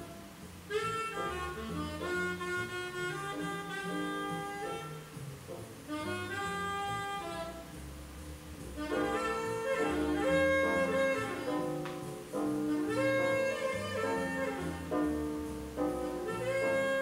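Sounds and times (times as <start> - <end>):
instrumental music long held notes: 0.0 - 17.0.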